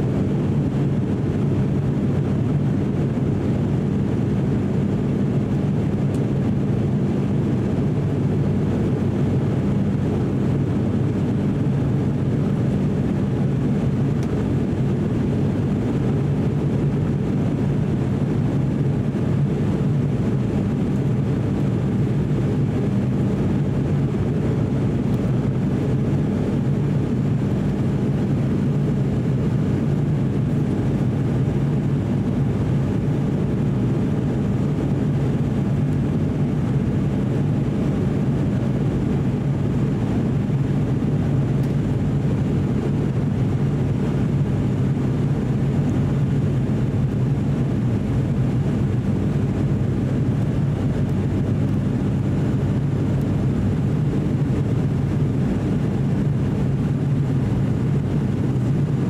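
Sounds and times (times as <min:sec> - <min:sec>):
turboprop engines droning in cabin: 0:00.0 - 0:59.0.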